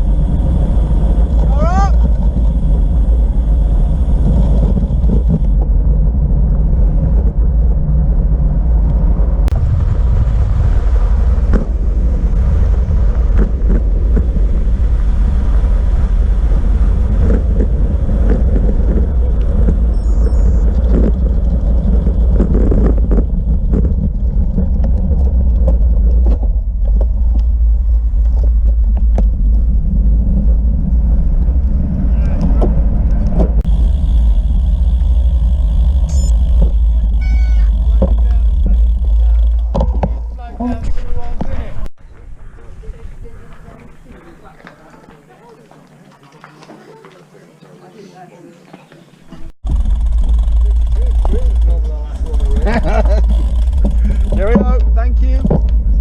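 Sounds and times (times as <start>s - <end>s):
wind buffeting microphone: 0.0s - 44.7s, 49.4s - 56.0s
bicycle road noise: 0.0s - 56.0s.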